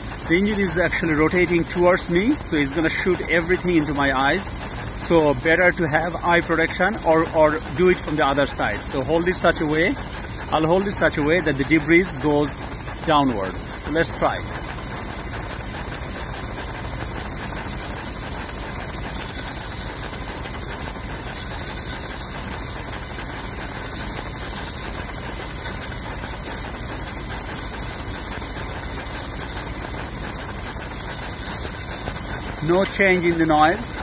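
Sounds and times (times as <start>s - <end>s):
drive belt squealing: 0.0s - 34.0s
engine idling: 0.0s - 34.0s.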